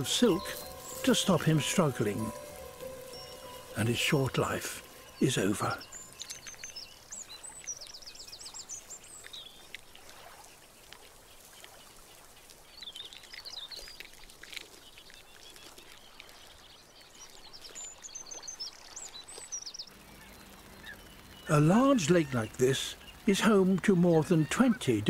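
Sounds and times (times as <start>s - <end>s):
birds singing: 0.0s - 25.0s
faint outdoor hiss: 0.0s - 25.0s.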